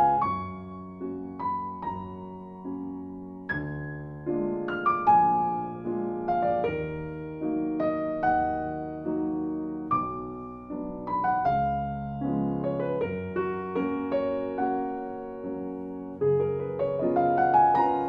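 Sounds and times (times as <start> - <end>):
slow solo piano melody: 0.0 - 18.0.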